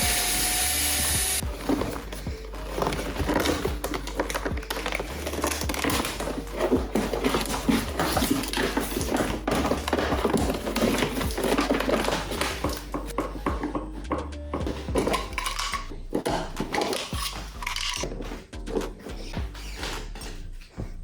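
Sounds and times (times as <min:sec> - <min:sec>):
plastic parts clicking and rattling: 0:01.6 - 0:20.8.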